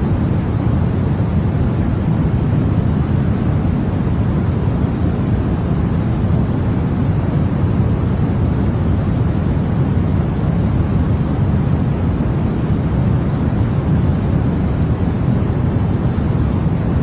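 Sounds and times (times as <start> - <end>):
deep white noise: 0.0 - 17.0.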